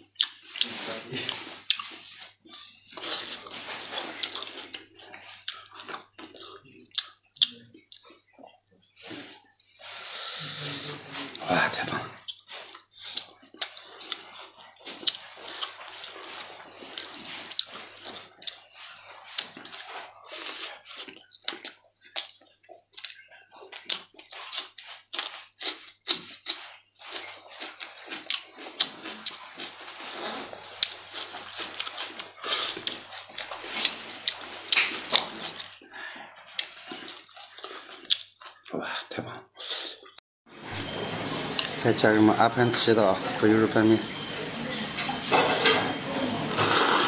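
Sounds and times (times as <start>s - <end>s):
wet chewing sounds: 0.0s - 10.2s, 11.2s - 39.3s.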